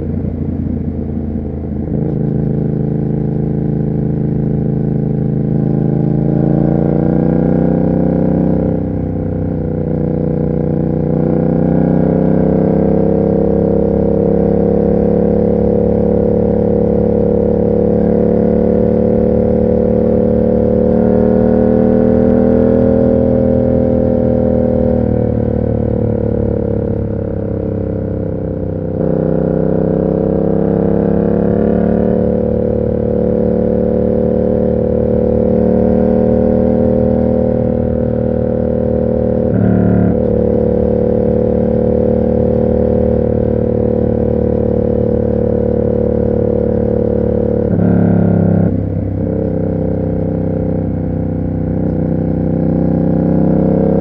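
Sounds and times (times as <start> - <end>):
motorcycle engine under throttle: 0.0 - 54.0.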